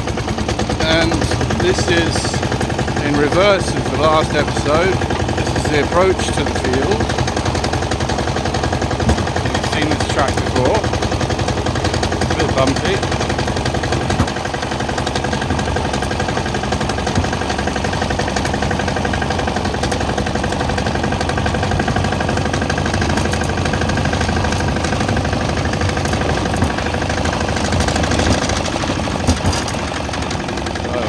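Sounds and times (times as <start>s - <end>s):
vehicle engine knocking: 0.0s - 31.0s.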